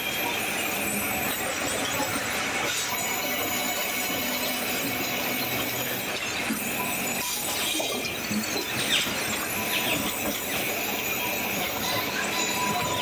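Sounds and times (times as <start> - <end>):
high squealing whine: 0.0 - 13.0.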